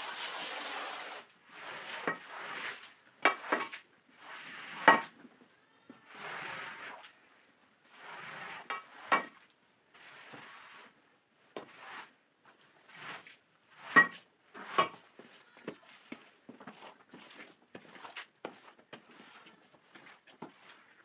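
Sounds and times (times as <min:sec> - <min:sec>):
scraper rasping across wet carpet: 0:00.0 - 0:05.0, 0:06.0 - 0:07.2, 0:07.8 - 0:11.0, 0:11.6 - 0:21.0.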